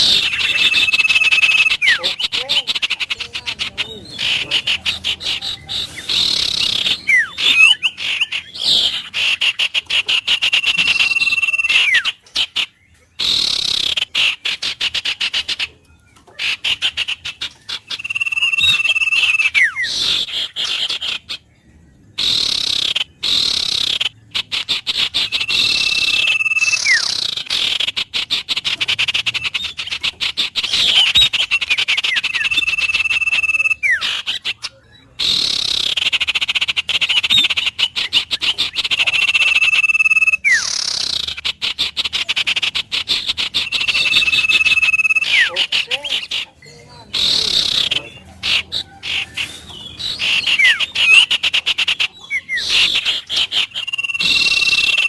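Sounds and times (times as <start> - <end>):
rapid pulsing animal chorus: 0.0 - 55.0
wild birds whistling: 0.0 - 55.0.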